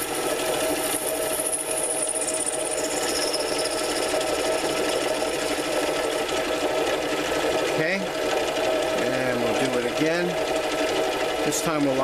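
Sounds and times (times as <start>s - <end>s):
lathe cutting workpiece: 0.0s - 12.0s.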